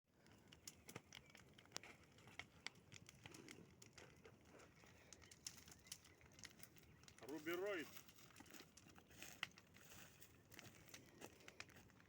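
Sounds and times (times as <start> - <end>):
campfire crackling: 0.1 - 12.0.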